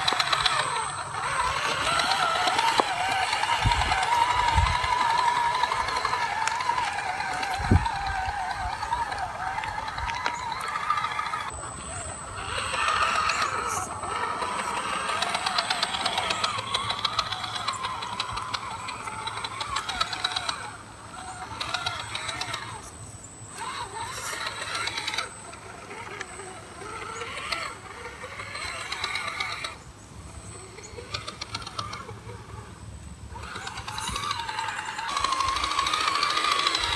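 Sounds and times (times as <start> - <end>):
electric motor and gears whining: 0.0 - 36.9.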